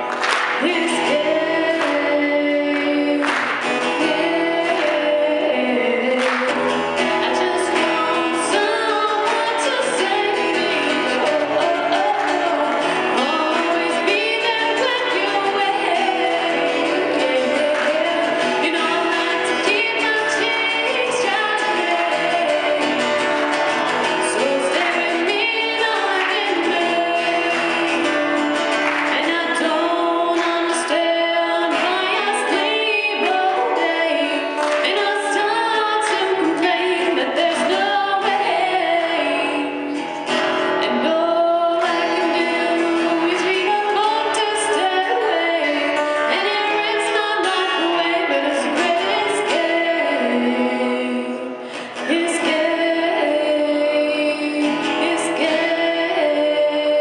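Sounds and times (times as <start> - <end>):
acoustic guitar: 0.0 - 57.0
woman singing: 0.0 - 57.0.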